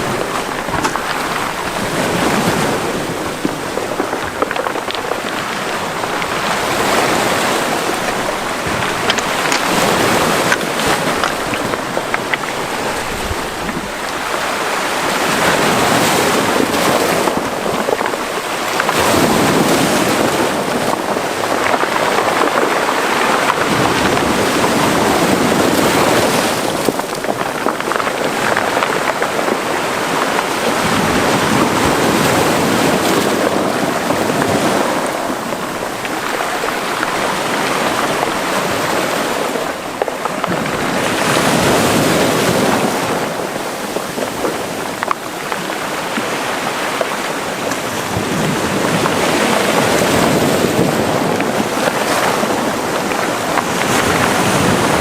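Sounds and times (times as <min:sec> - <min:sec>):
sea waves breaking: 0:00.0 - 0:55.0.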